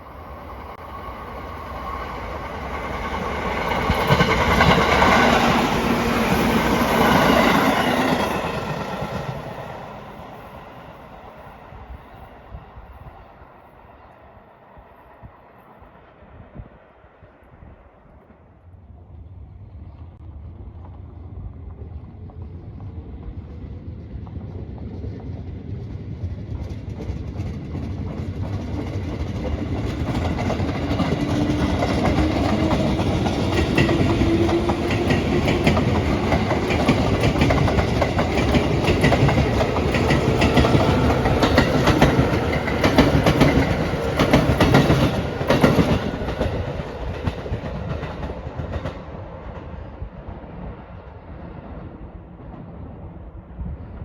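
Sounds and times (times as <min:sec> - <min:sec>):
train rumble passing: 0:00.0 - 0:54.0.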